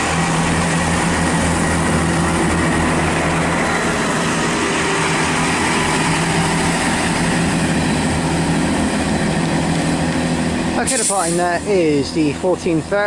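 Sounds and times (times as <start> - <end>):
diesel train engines running: 0.0 - 13.0
rail noise: 0.0 - 13.0.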